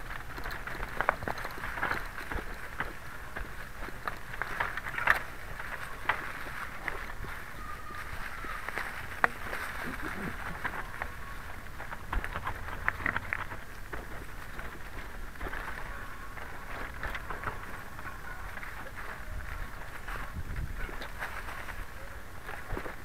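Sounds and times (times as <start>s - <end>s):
tyres crunching over dry leaves: 0.0s - 23.0s.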